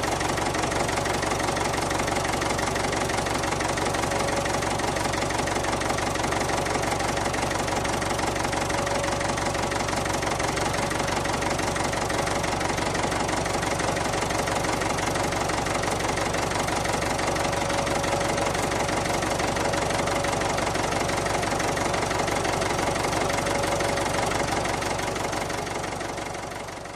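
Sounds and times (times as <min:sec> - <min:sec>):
tractor engine idling: 0:00.0 - 0:26.9.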